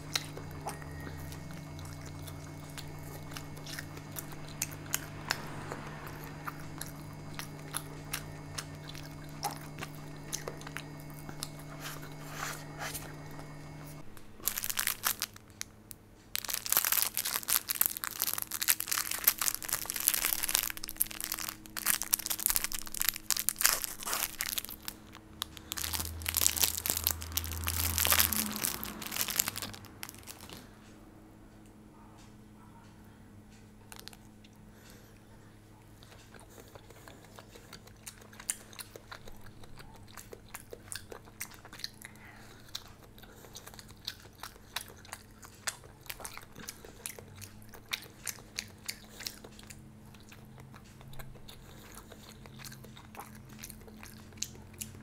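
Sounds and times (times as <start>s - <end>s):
food crunching and crinkling: 0.0s - 31.0s, 33.7s - 55.0s
steady hum: 0.0s - 50.1s.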